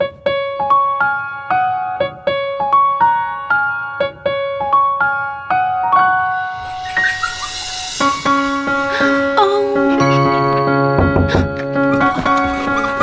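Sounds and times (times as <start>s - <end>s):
solo piano melody: 0.0s - 13.0s.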